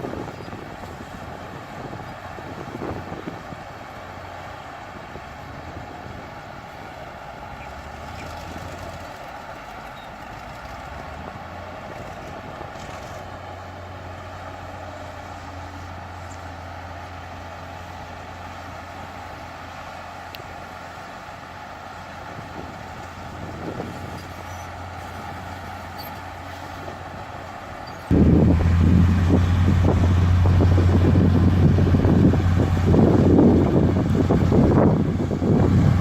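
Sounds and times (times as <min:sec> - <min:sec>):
heavy diesel engine droning: 0:00.0 - 0:36.0.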